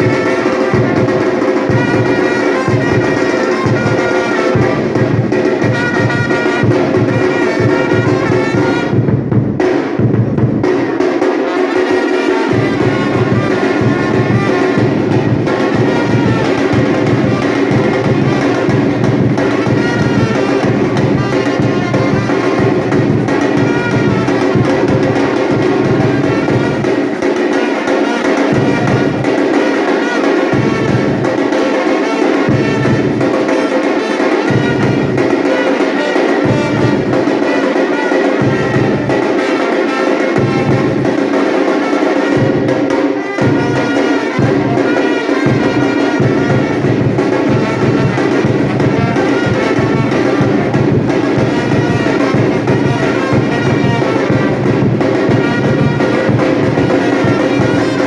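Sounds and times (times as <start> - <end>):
brass music with trumpets: 0.0 - 58.0
percussion drum group: 0.0 - 58.0.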